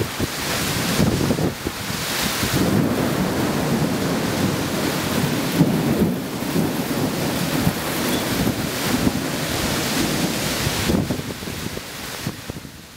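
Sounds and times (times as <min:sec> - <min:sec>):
low thunder rumble: 0:00.0 - 0:12.7
heavy rain pouring: 0:00.0 - 0:12.9.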